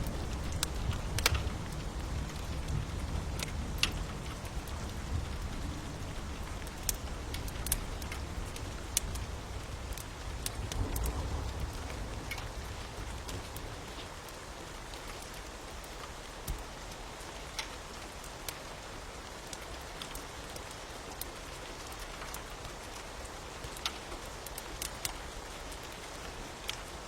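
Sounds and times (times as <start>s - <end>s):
sharp ticks and crackles: 0.0s - 27.0s
steady rain: 0.0s - 27.0s.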